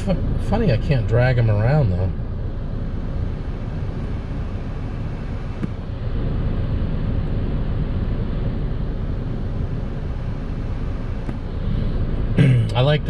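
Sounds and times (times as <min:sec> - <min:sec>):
car cabin engine rumble: 0:00.0 - 0:13.0.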